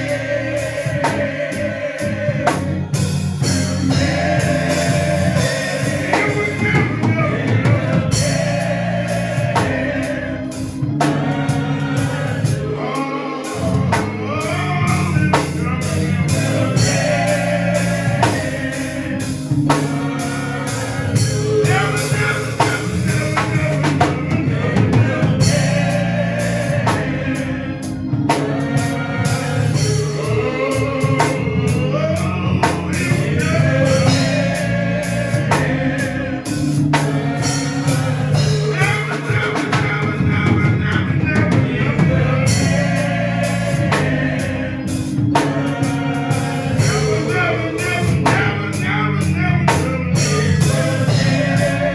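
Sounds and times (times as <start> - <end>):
bass: 0.0 - 51.9
choir singing gospel: 0.0 - 51.9
drums: 0.0 - 51.9.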